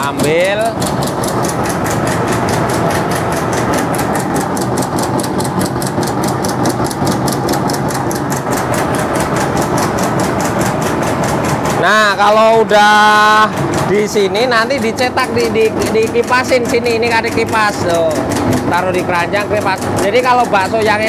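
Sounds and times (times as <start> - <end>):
machine motor hum: 0.0 - 21.0
rapid even ticking: 0.0 - 21.0.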